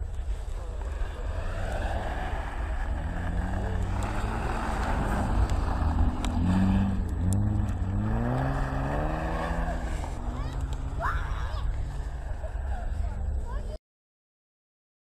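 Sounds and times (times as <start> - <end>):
rally car engine accelerating: 0.4 - 13.3.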